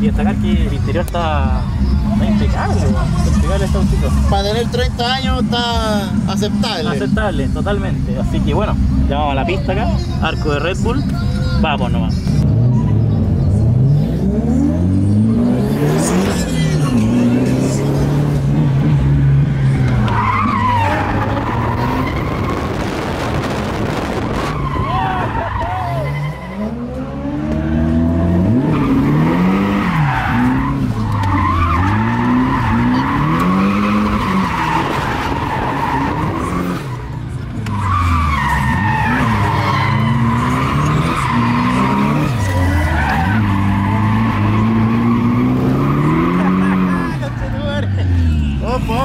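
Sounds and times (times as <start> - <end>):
car engine revving: 0.0 - 49.0
tyres squealing and skidding: 0.2 - 8.8, 9.4 - 49.0.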